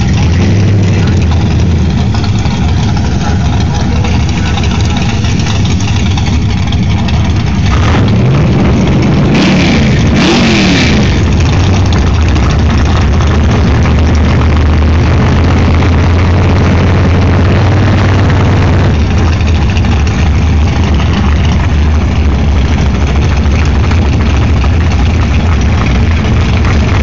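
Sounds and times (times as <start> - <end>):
car engine idling loudly: 0.0 - 27.0
car engine revving: 0.0 - 27.0.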